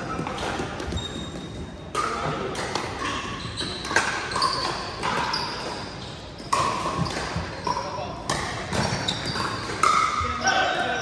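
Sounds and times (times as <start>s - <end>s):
paddles hitting pickleballs: 0.0s - 11.0s.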